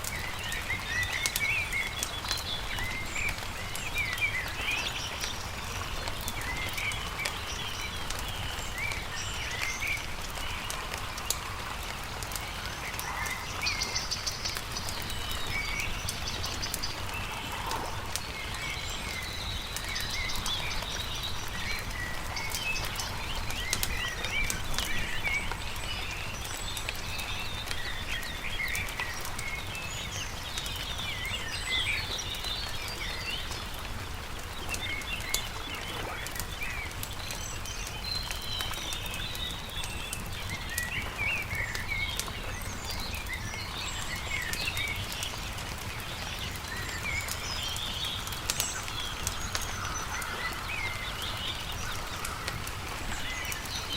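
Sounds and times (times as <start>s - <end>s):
campfire crackling: 0.0s - 53.9s
songbirds chirping: 0.0s - 53.9s.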